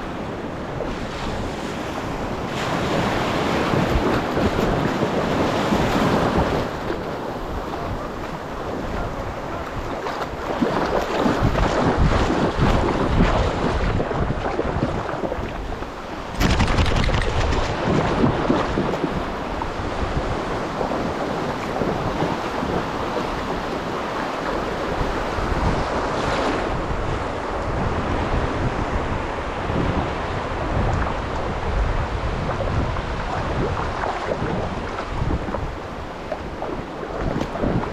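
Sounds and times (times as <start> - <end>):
ocean surf on beach: 0.0 - 37.9
wind buffeting microphone: 0.0 - 37.9.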